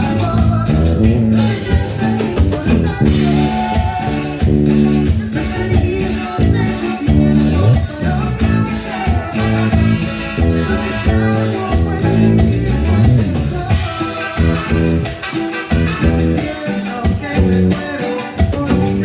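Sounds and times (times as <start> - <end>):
latin dance music: 0.0 - 19.0.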